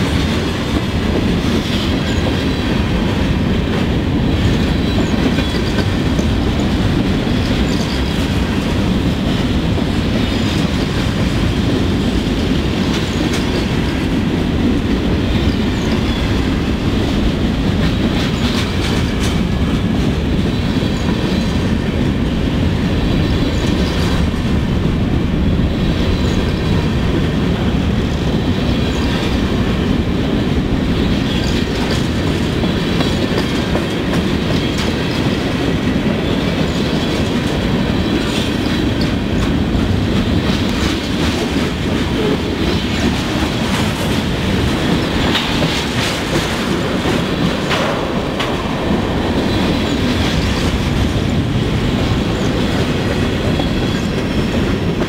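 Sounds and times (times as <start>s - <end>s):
freight train rolling past: 0.0s - 55.0s
wheels clacking over rail joints: 0.0s - 55.0s.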